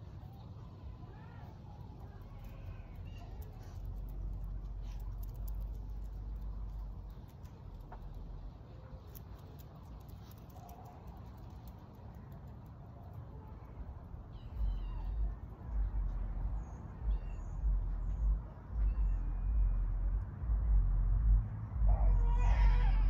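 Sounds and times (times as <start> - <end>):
small birds chirping: 0.0 - 20.5.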